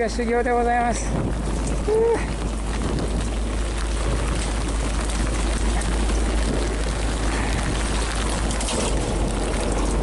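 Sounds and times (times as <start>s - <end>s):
wind and rain rushing: 0.0s - 10.0s
wind buffeting microphone: 0.0s - 10.0s.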